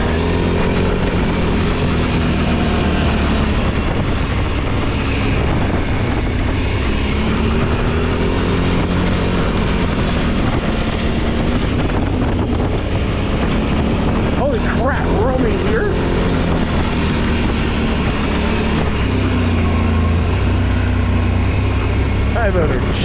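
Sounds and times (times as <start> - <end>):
off-road vehicle engine running: 0.0 - 23.0
wind buffeting microphone: 0.0 - 23.0.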